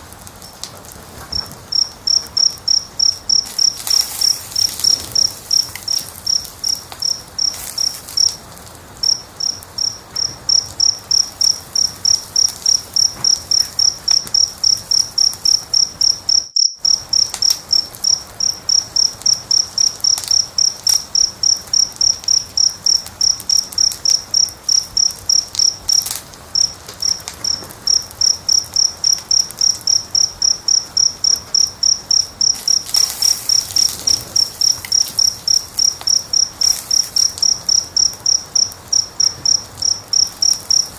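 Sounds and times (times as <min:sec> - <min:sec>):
cricket chirping: 0:00.0 - 0:40.9
wood fire crackling: 0:00.0 - 0:40.9.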